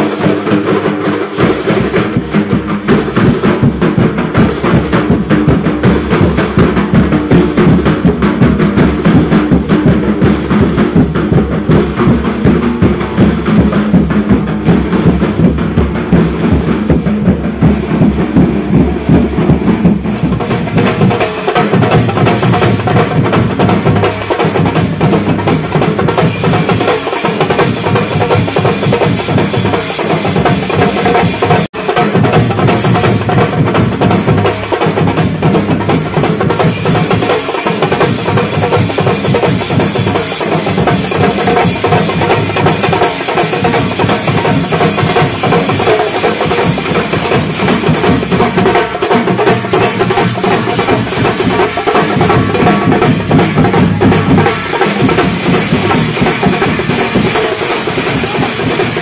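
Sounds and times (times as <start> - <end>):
loud drumming music: 0.0 - 59.0.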